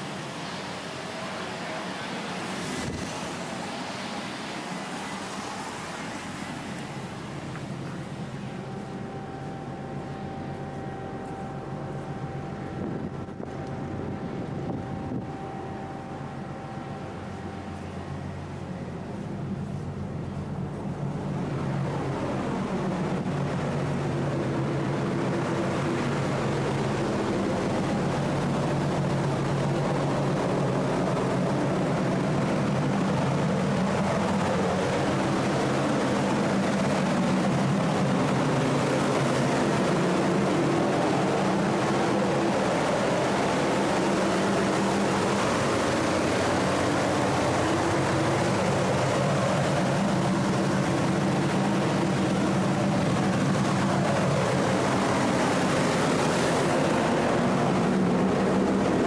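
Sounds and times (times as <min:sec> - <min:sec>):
ship engine humming: 0:03.4 - 0:59.0.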